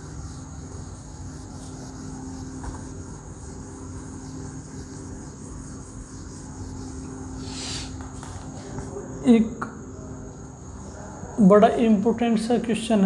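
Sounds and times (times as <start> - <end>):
low droning hum: 0.0 - 12.9
high-pitched whine: 0.0 - 13.0.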